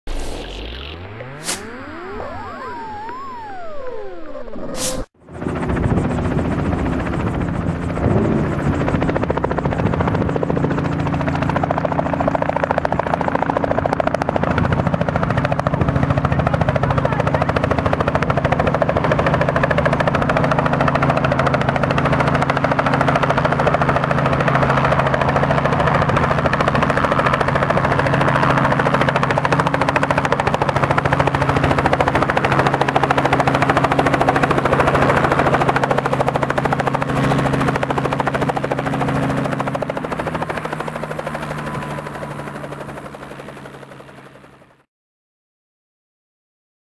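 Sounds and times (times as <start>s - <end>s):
helicopter rotor and engine: 0.1s - 44.9s.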